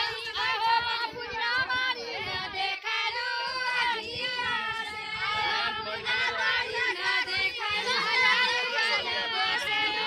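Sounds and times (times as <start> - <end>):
crowd chattering: 0.0 - 10.0
high voices singing together: 0.0 - 10.0.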